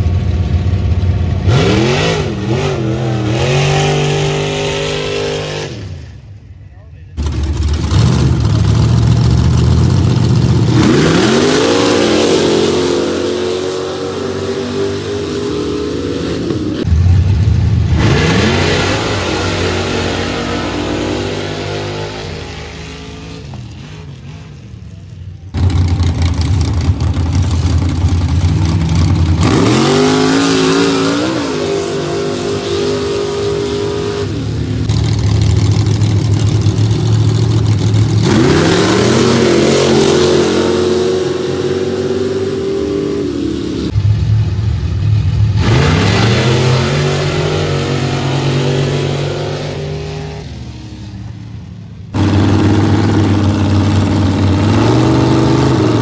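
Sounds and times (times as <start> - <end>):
truck engines racing: 0.0 - 56.0.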